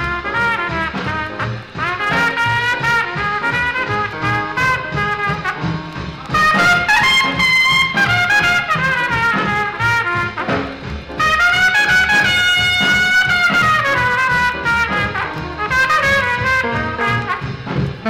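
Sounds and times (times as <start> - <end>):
brass horn solo: 0.0 - 18.0
jazz rhythm section: 0.0 - 18.0.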